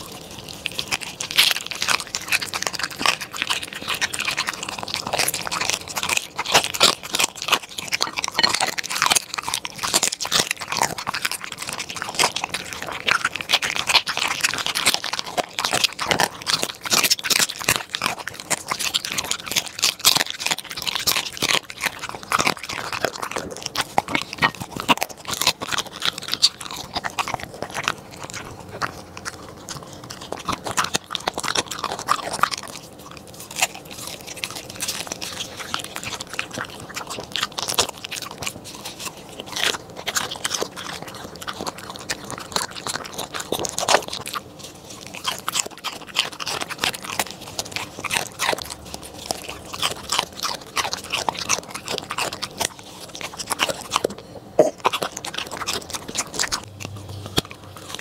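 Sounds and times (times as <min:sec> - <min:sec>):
dog chewing and crunching food: 0:00.0 - 0:58.0
dog licking a plate: 0:00.0 - 0:58.0.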